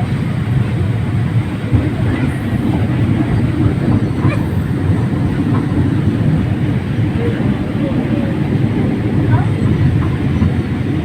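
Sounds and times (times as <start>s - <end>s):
toy train rumbling: 1.6s - 11.0s.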